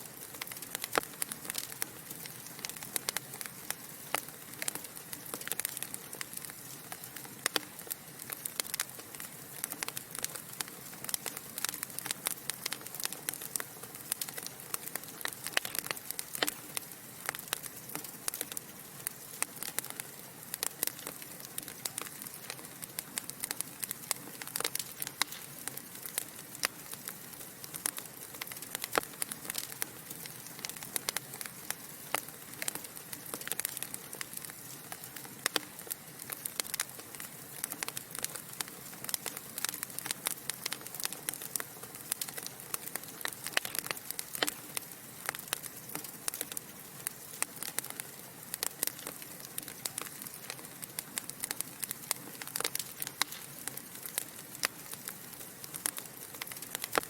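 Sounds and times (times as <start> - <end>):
logs crackling and popping: 0.0 - 57.0
soft fire hiss: 0.0 - 57.0.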